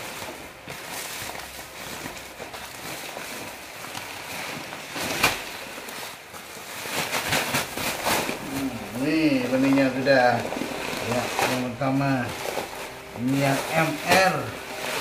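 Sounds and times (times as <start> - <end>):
plastic bag rustling and crinkling: 0.0 - 15.0
sharp loud crackle: 0.0 - 15.0.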